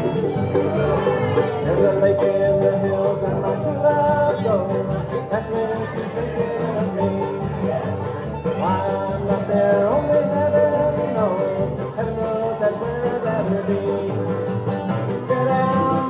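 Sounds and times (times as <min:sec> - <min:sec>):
bluegrass band playing: 0:00.0 - 0:16.0.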